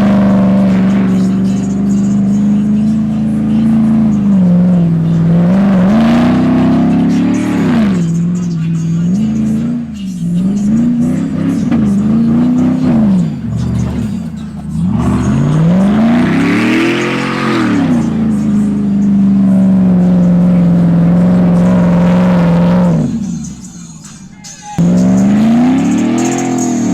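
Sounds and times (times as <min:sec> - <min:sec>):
truck engine revving: 0:00.0 - 0:26.9.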